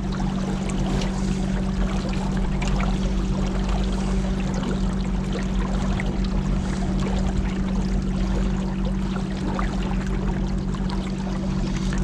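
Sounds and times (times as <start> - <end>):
motorboat engine running: 0.0 - 12.0
water rushing past hull: 0.0 - 12.0.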